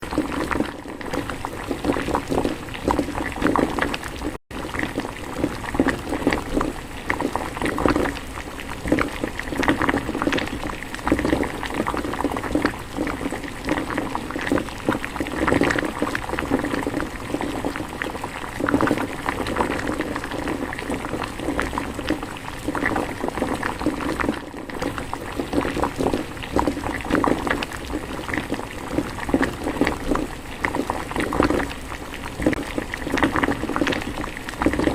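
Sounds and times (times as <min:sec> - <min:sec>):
soup boiling and bubbling: 0:00.0 - 0:34.9.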